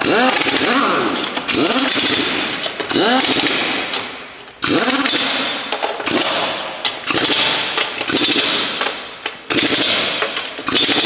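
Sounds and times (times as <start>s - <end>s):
pneumatic impact wrench rattling: 0.0s - 11.0s.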